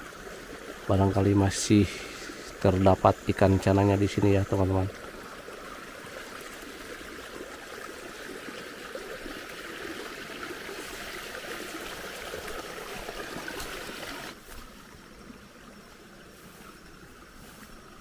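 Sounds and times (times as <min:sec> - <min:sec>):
water trickling in a ditch: 0:00.0 - 0:18.0.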